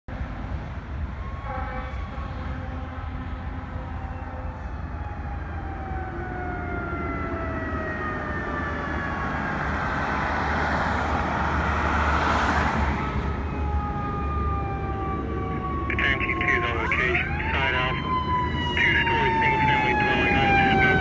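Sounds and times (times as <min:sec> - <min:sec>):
road noise: 0:00.1 - 0:21.0
fire truck siren: 0:01.0 - 0:21.0.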